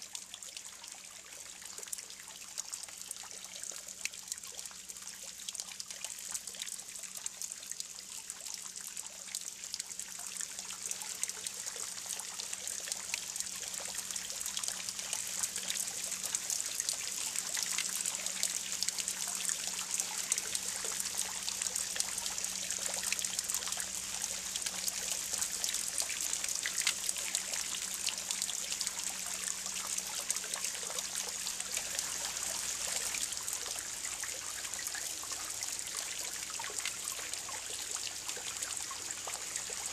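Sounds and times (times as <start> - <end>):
water trickling into a jug: 0.0 - 39.9.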